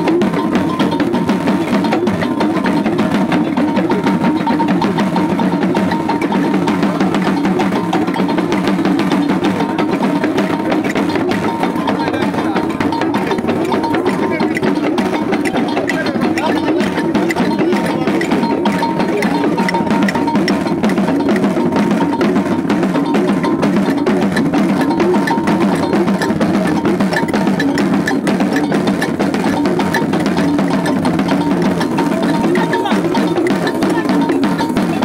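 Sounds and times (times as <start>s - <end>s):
drum ensemble playing fast rhythm: 0.0s - 35.0s.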